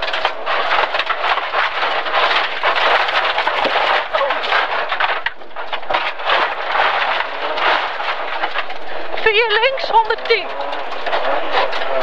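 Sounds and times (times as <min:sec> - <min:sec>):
dense crackling car cabin noise: 0:00.0 - 0:12.0.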